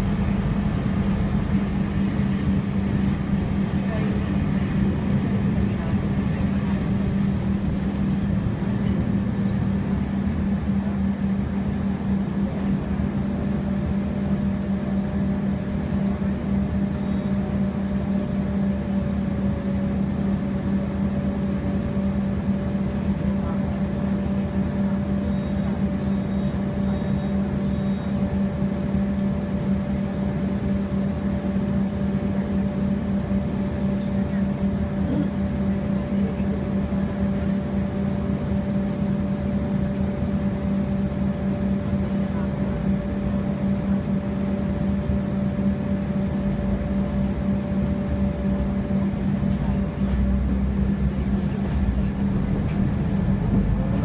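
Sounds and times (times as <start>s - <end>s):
bus engine hum: 0.0s - 54.0s.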